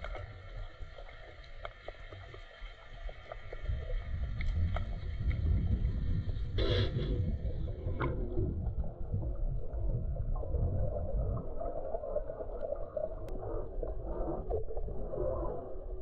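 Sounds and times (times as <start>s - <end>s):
underwater rumble of moving water: 0.0s - 16.0s.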